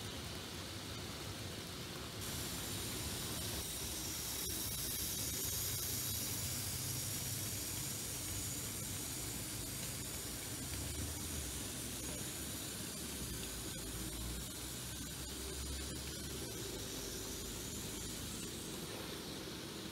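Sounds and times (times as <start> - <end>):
model train running on track: 1.9 - 19.9.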